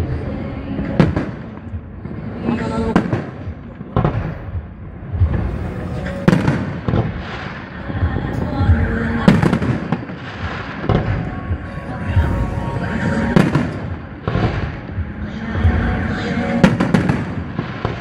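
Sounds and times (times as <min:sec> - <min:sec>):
firework rumbling and crackle: 0:00.0 - 0:18.0
firework bangs: 0:00.8 - 0:18.0.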